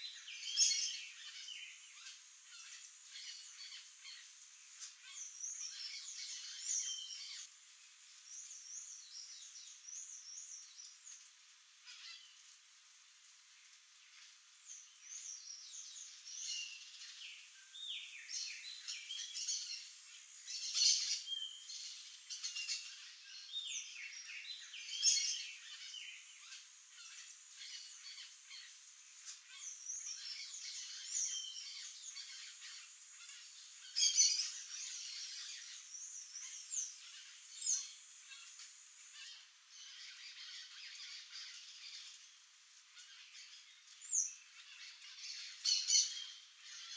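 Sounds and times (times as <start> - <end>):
birds chirping and calling: 0.0 - 7.5, 11.8 - 12.4, 14.1 - 46.9.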